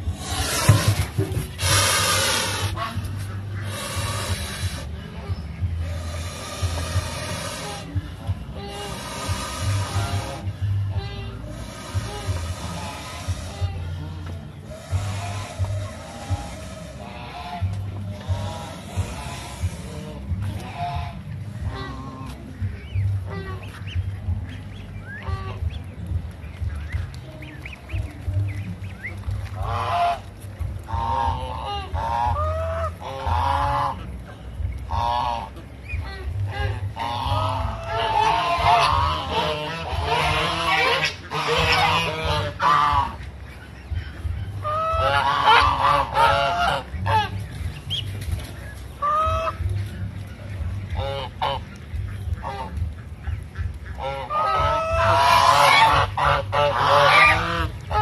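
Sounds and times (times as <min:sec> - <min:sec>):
geese honking: 0:00.0 - 0:58.0
low rumble: 0:00.0 - 0:58.0.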